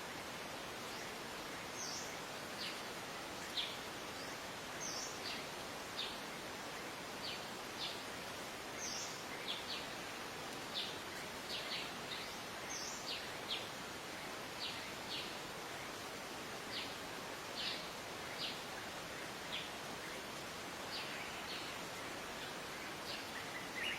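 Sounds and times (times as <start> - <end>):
background hiss: 0.0 - 23.9
songbirds chirping: 0.0 - 23.9.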